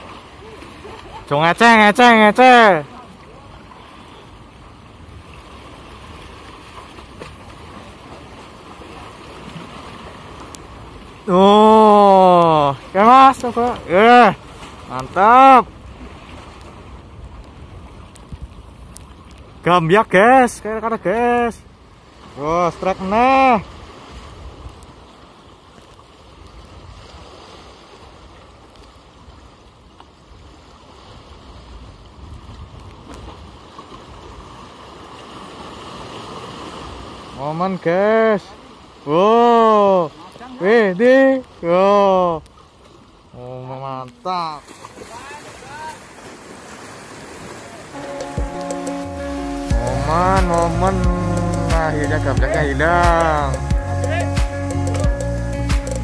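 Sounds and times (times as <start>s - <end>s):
sea waves washing against concrete: 0.0s - 56.0s.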